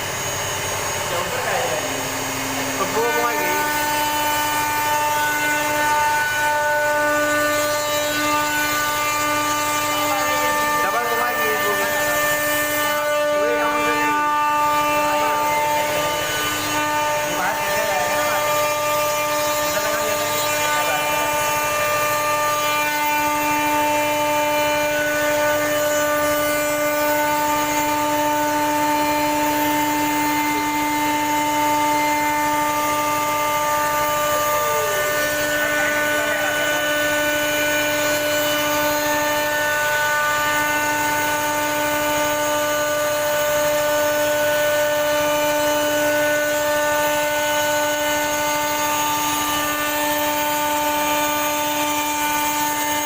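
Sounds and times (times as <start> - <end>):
cnc router spindle whine: 0.0 - 53.0.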